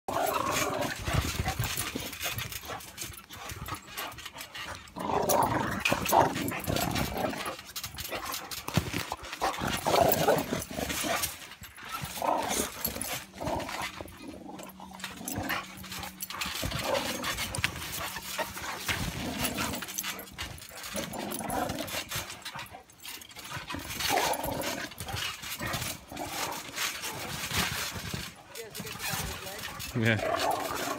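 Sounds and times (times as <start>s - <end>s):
dogs growling: 0.1s - 30.9s
dogs scuffling on mat: 0.1s - 30.9s.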